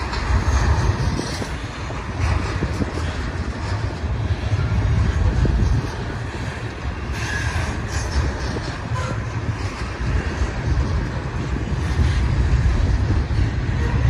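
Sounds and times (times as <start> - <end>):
freight train wheels rumbling on rails: 0.0 - 14.0.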